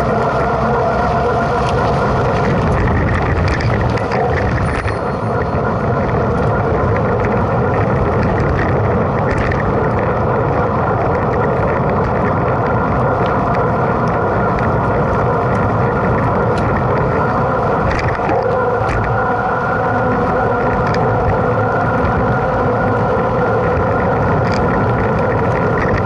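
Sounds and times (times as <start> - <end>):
bike clicks and rattles: 0.0 - 26.0
wind and tyre noise: 0.0 - 26.0.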